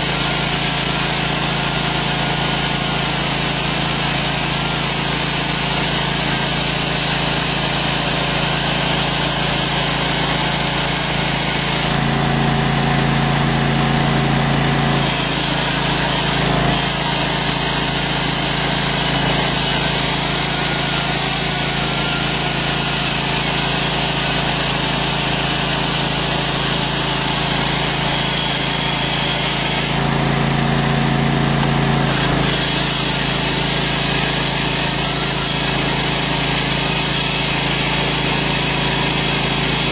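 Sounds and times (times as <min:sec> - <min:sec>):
chainsaw grinding concrete: 0:00.0 - 0:39.9
engine running: 0:00.0 - 0:39.9.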